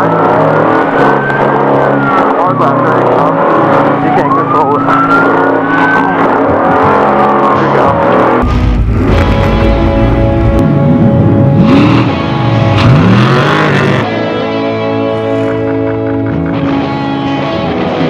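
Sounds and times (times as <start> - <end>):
truck engine revving hard: 0.0 - 16.9.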